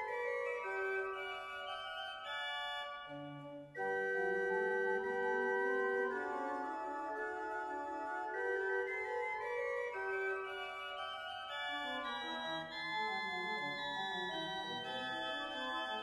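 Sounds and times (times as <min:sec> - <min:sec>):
pipe organ playing: 0:00.0 - 0:16.0.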